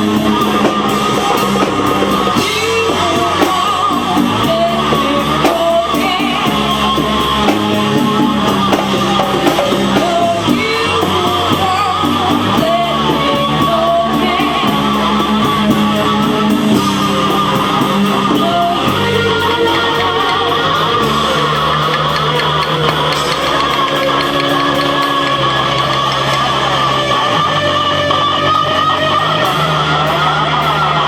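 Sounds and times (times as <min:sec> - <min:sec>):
person singing: 0:00.0 - 0:31.0
rock band playing live: 0:00.0 - 0:31.0.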